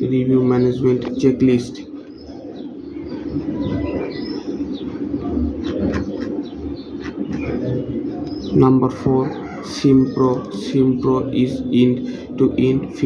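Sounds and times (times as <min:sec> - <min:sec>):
birds cooing: 0:00.0 - 0:13.0.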